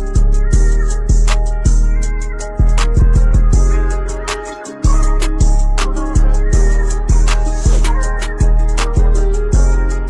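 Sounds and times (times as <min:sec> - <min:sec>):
hip hop beat with keyboard chords: 0:00.0 - 0:10.0.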